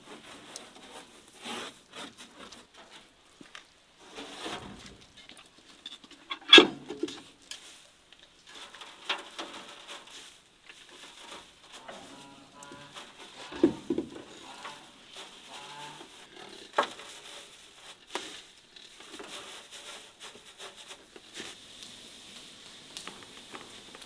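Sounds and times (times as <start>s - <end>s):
wood shavings rustling and pattering: 0.0s - 24.0s.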